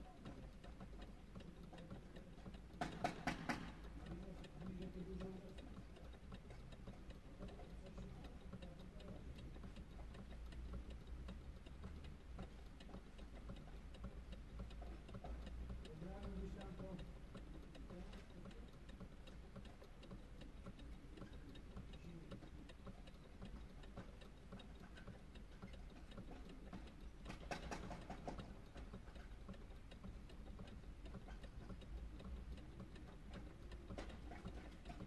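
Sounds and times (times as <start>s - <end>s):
faint steady ticking: 0.0s - 35.0s
sharp clicks: 0.2s - 35.0s.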